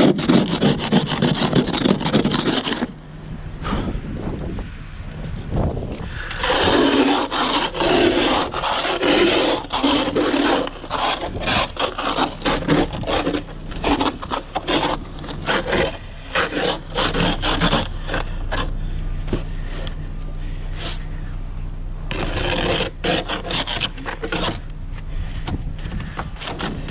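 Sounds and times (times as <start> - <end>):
ice scraper scraping a window: 0.0 - 3.0, 6.0 - 21.4, 22.1 - 26.9.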